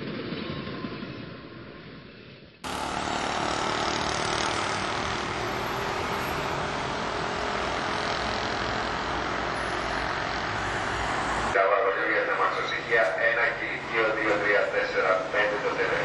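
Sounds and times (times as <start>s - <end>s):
passing cars and motorbikes: 2.6s - 16.0s.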